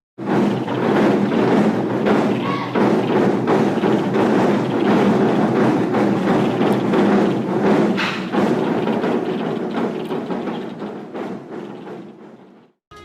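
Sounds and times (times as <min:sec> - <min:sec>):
music with percussive beat: 0:00.2 - 0:13.0.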